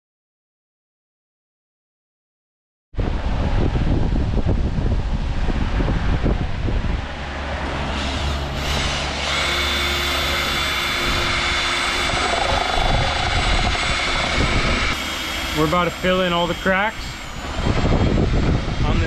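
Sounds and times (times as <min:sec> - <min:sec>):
machine humming and whining: 0:03.0 - 0:19.0.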